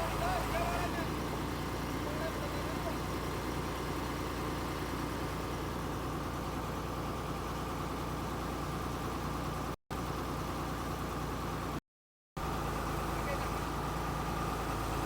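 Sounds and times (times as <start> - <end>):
excavator diesel engine running: 0.0 - 11.8, 12.4 - 15.0.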